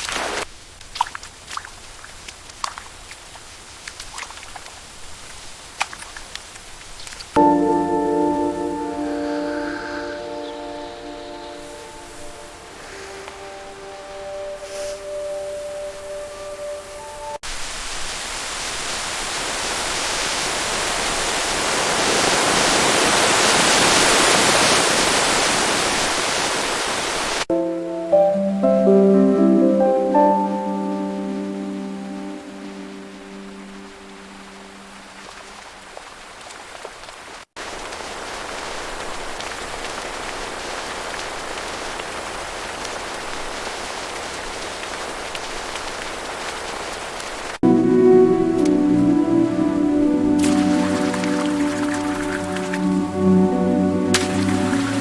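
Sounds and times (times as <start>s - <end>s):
heavy rain: 4.6s - 27.5s, 30.8s - 55.0s.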